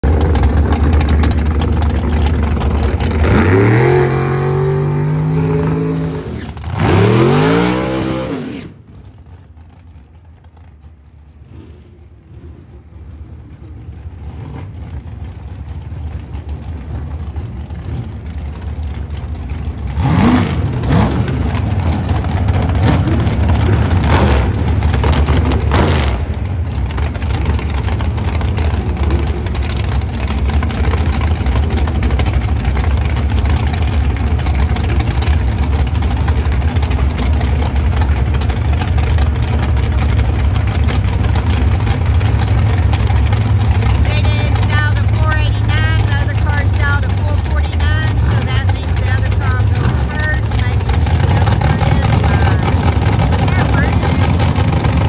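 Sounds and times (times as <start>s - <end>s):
dragster engine idling: 0.0s - 8.1s, 8.7s - 55.0s
dragster engine revving: 0.0s - 55.0s.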